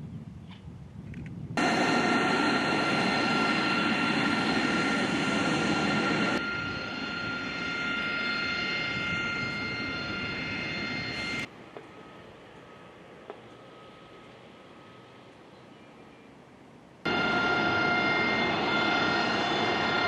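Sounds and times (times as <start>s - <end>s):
jet engines whining and roaring: 1.6s - 15.5s, 17.0s - 20.0s.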